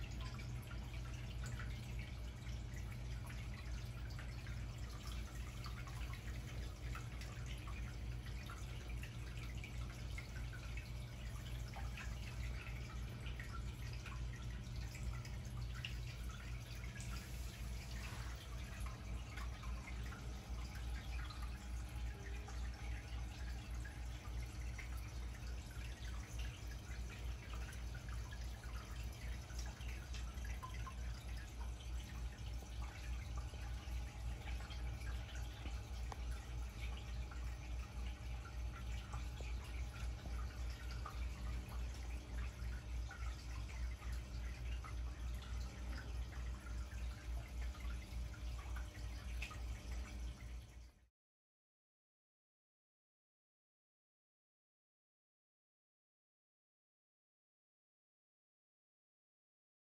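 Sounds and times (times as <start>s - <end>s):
aquarium filter hum: 0.0s - 51.1s
bubbles and trickling water: 0.0s - 51.1s.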